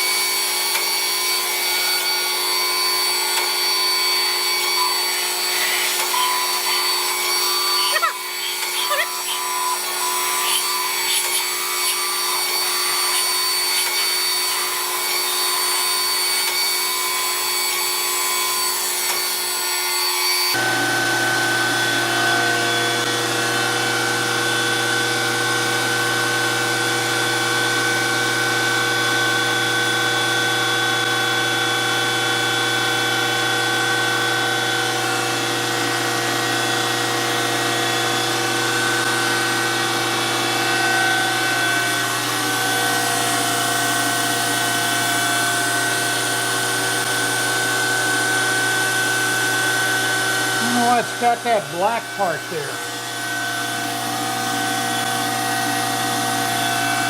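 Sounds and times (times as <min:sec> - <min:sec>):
surface grinder whine: 0:00.0 - 0:25.0, 0:35.3 - 0:57.0.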